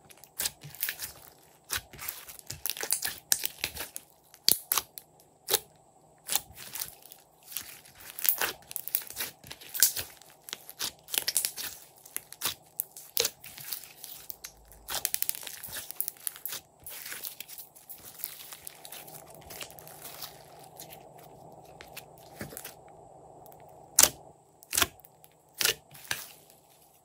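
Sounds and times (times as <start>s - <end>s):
slime popping and crackling: 0.2s - 5.6s, 6.2s - 22.7s, 24.0s - 25.0s.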